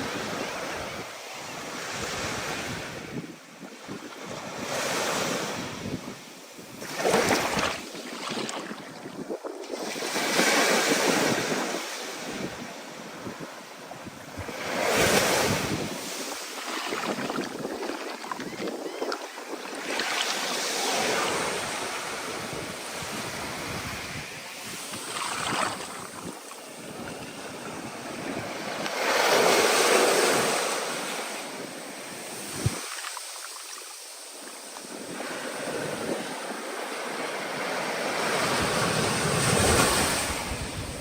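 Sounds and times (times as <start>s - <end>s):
ocean waves rushing and washing: 0.0s - 41.0s.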